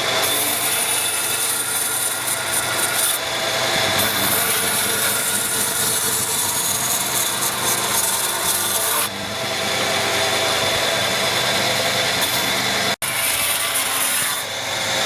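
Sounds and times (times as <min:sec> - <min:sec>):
woodworking tool running: 0:00.0 - 0:15.0.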